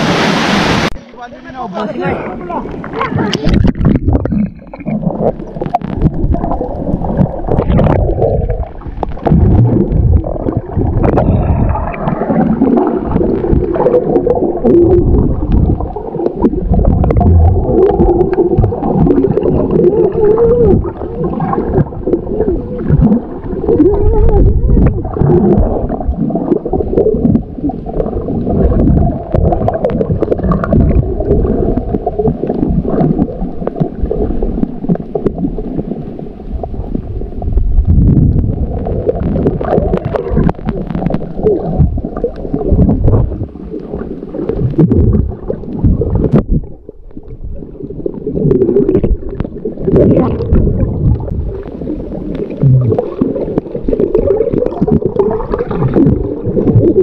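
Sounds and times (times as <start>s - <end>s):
water rushing past camera: 0.0s - 57.0s
underwater gurgling bubbles: 2.0s - 57.0s.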